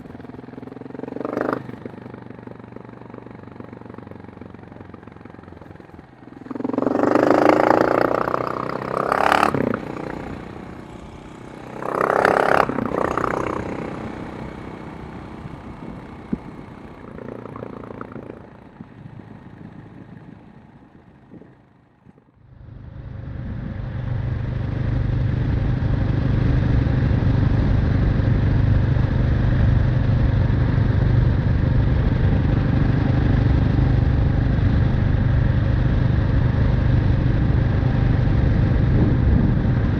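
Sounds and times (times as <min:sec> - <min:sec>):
engine running steadily: 0:00.0 - 0:39.9
motorcycle engine revving: 0:00.0 - 0:39.9.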